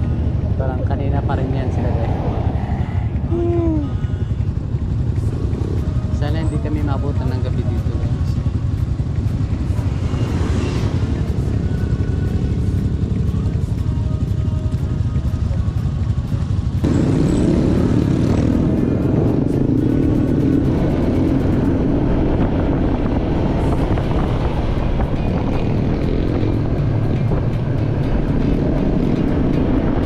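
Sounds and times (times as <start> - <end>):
motorcycle engine on the road: 0.0 - 30.0
road noise: 0.0 - 30.0.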